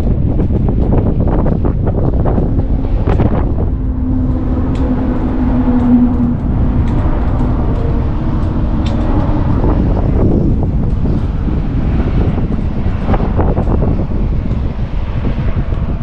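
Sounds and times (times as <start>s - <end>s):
low hum: 0.0s - 16.0s
road rumble: 0.0s - 16.0s
wind noise: 0.0s - 16.0s.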